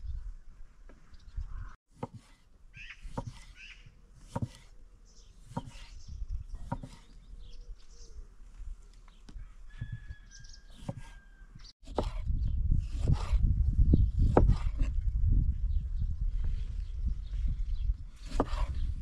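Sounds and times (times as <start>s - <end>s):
birds chirping: 0.0s - 14.4s, 15.6s - 19.0s.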